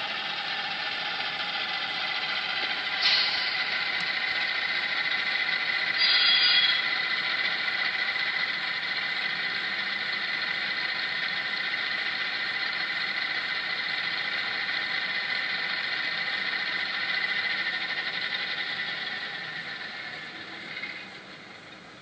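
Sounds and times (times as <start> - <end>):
model locomotive diesel idle: 0.0 - 22.0.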